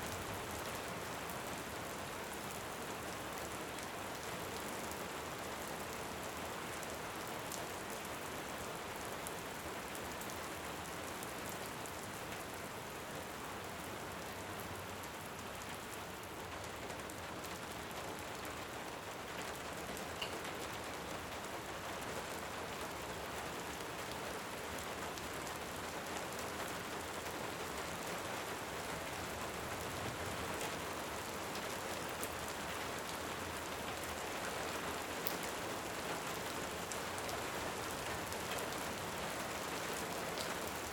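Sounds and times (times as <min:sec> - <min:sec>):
faint wood fire crackle: 0:00.0 - 0:40.9
steady rainfall: 0:00.0 - 0:40.9.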